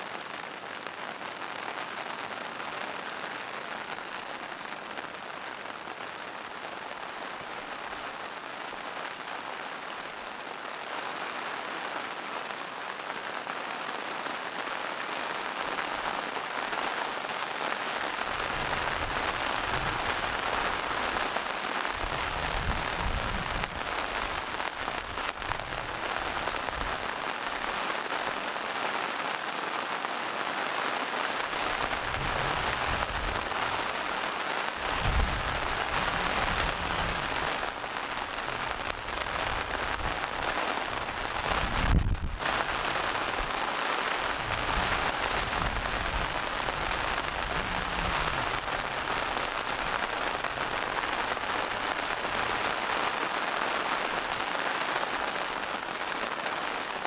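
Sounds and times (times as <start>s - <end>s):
rain on leaves and rocks: 0.0s - 57.0s.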